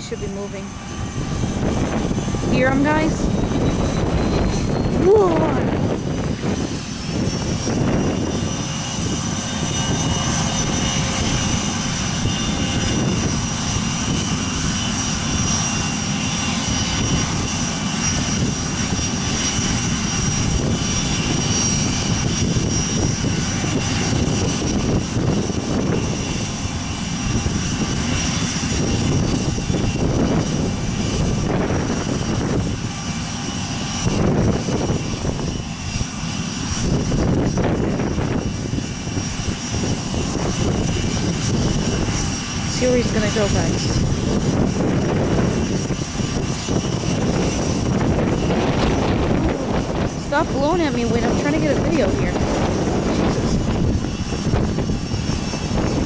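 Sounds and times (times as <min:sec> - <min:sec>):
jet turbine whine: 0:00.0 - 0:56.0
wind buffeting microphone: 0:00.0 - 0:56.0.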